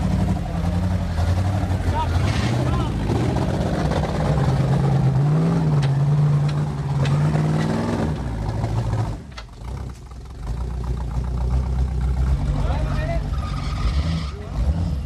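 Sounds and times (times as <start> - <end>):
engine revving under load: 0.0 - 10.5, 11.5 - 15.0.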